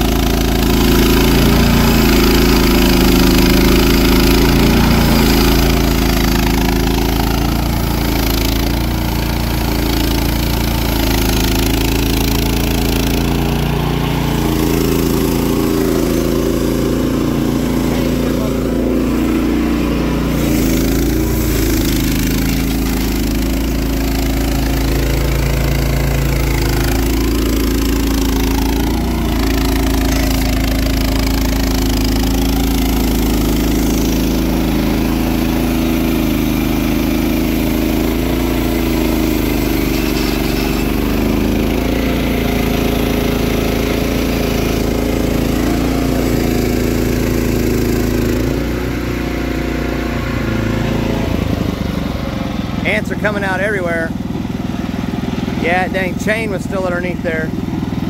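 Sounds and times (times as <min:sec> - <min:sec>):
band blade sawing log: 0:00.0 - 0:51.7, 0:52.8 - 0:54.1
small engine running steadily: 0:00.0 - 0:58.0.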